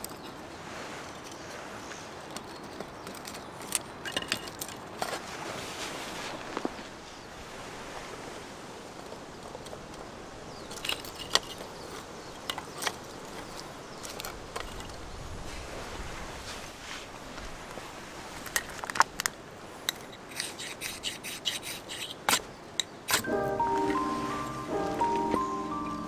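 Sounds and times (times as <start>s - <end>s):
steady outdoor hiss: 3.8s - 26.0s.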